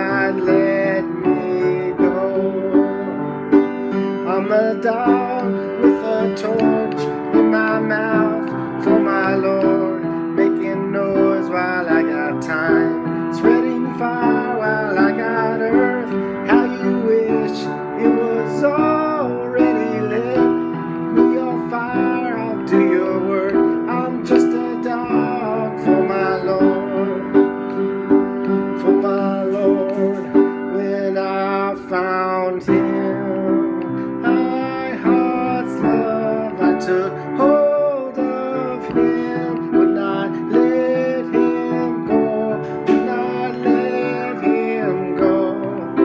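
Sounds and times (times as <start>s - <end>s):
piano playing chords and melody: 0.0s - 46.0s.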